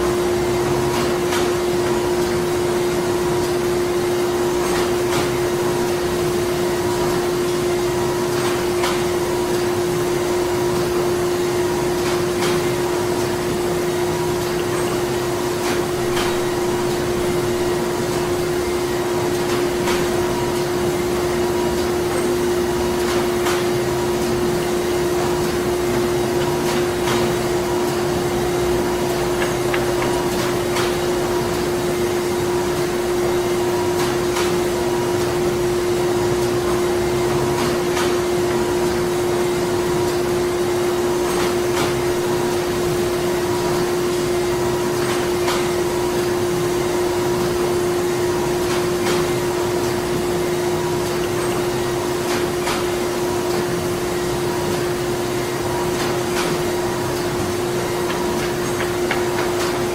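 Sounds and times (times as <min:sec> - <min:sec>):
printing machinery drone: 0:00.0 - 0:59.9.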